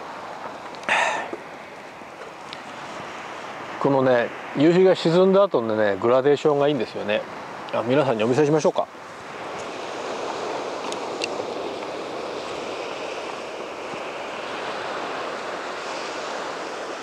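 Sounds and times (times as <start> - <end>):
waves washing onto sandy beach: 0.0 - 17.0.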